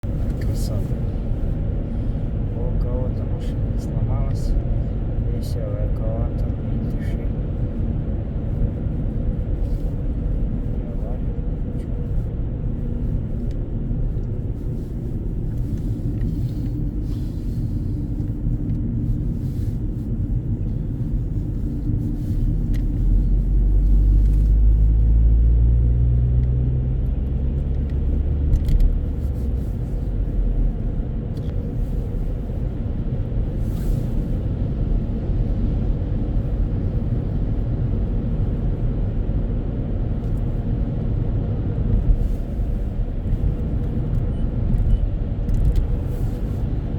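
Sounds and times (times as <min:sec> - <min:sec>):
car driving rumble: 0:00.0 - 0:46.9.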